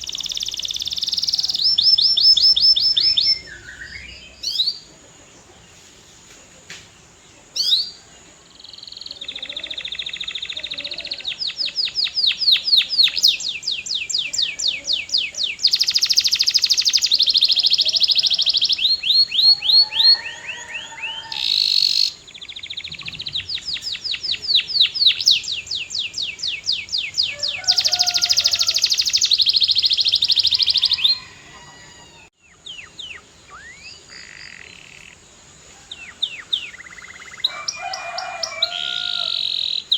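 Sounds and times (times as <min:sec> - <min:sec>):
canary singing trills: 0:00.0 - 0:05.6, 0:07.4 - 0:39.9
bird chirps: 0:00.0 - 0:05.9, 0:07.4 - 0:39.9.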